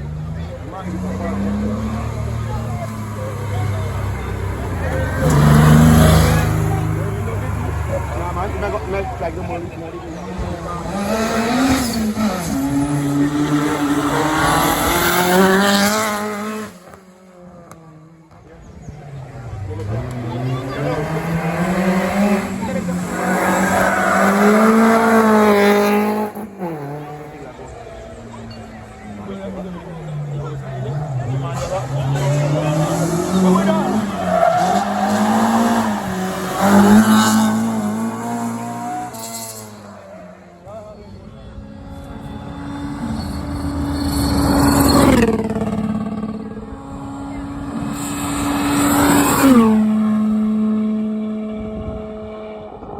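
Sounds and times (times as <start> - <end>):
car engine revving hard: 0.0 - 17.0, 19.7 - 27.7, 29.3 - 40.7, 41.4 - 52.8.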